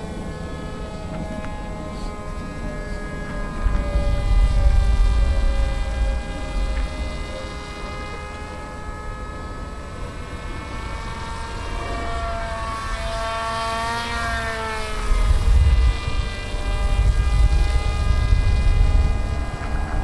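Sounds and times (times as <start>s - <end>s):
low rumble on microphone: 0.0s - 20.0s
model plane motor whining overhead: 0.0s - 20.0s.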